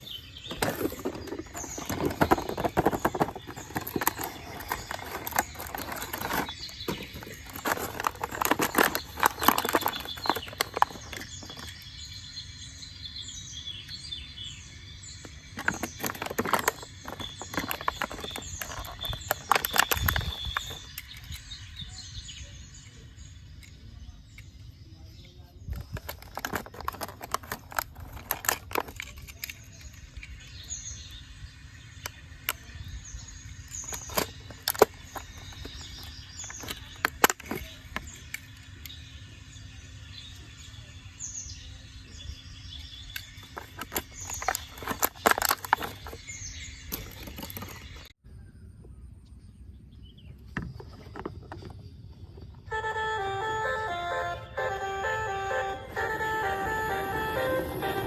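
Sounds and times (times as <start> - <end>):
birds chirping: 0.0 - 48.2, 48.9 - 58.0.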